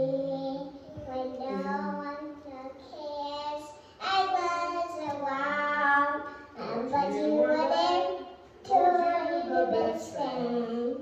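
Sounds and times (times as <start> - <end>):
girl singing into microphone: 0.0 - 11.0.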